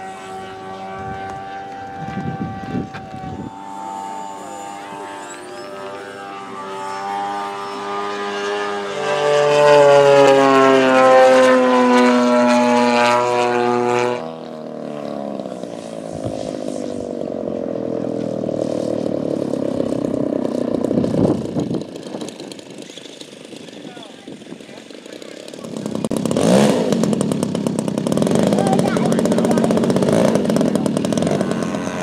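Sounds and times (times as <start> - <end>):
model airplane engine whine: 0.0 - 32.0
rough engine passing low: 0.0 - 32.0.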